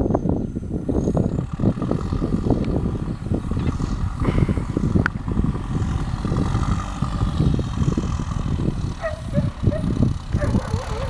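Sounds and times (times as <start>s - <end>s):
distant backhoe engine running: 0.0s - 11.0s
wind buffeting microphone: 0.0s - 11.0s.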